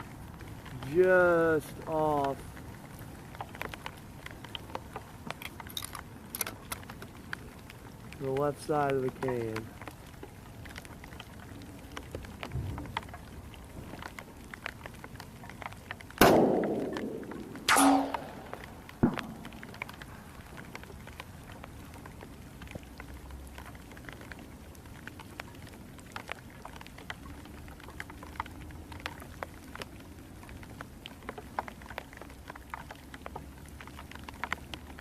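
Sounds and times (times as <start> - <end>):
raindrops tapping on surfaces: 0.0 - 35.0.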